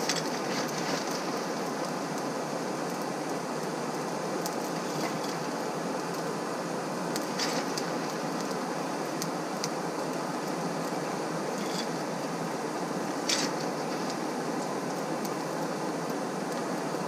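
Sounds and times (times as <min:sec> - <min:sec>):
burning coal crackling and popping: 0:00.0 - 0:17.0.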